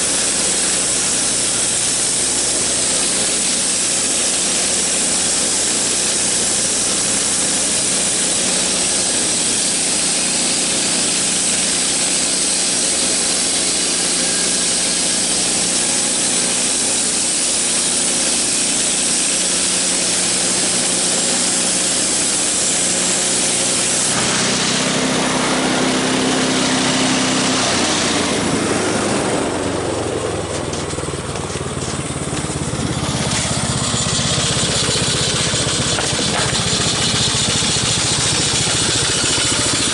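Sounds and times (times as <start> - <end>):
saw blade hissing through wood: 0.0 - 30.6, 31.6 - 39.9
engine running steadily: 0.0 - 39.9.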